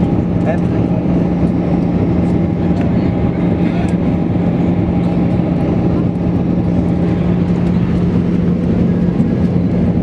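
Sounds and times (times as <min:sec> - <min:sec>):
airplane cabin engine drone: 0:00.0 - 0:10.0
constant low hum: 0:00.0 - 0:10.0.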